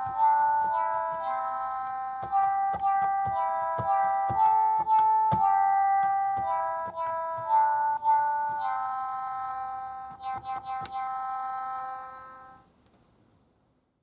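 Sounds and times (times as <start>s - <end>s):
keyboard melody: 0.0s - 12.6s.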